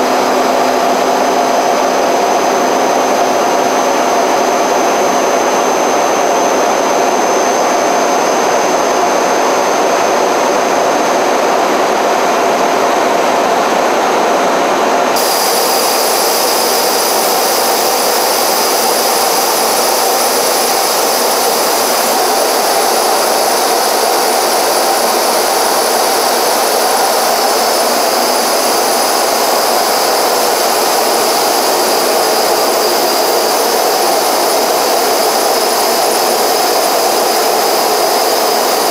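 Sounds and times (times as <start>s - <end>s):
jet engine whine and hiss: 0.0s - 38.9s.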